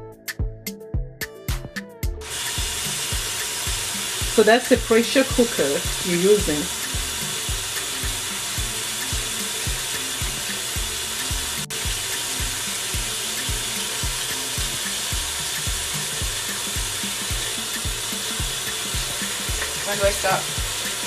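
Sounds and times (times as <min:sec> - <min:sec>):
background music with beat: 0:00.0 - 0:21.0
tap water filling metal pot: 0:02.3 - 0:21.0.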